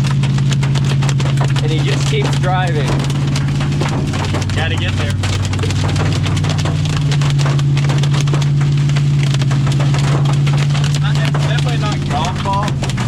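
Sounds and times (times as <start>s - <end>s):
engine droning: 0.0s - 13.0s
hail hitting vehicle roof: 0.0s - 13.0s.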